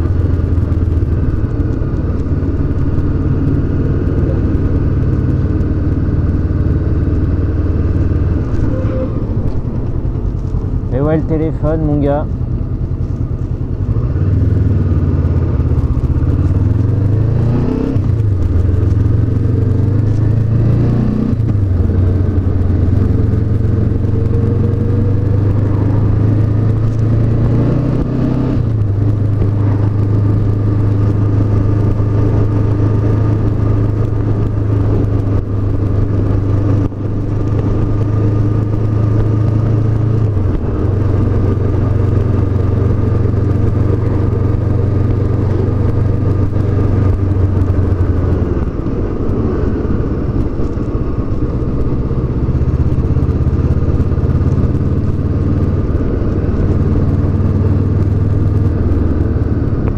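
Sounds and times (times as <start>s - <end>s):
motorcycle engine under way: 9.4s - 59.9s.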